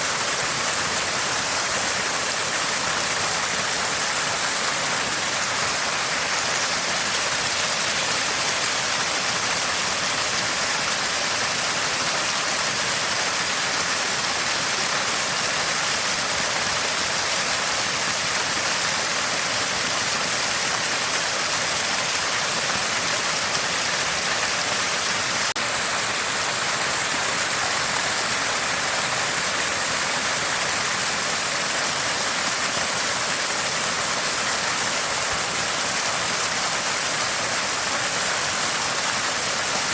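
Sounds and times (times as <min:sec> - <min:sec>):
water splashing from a spring: 0:00.0 - 0:39.9.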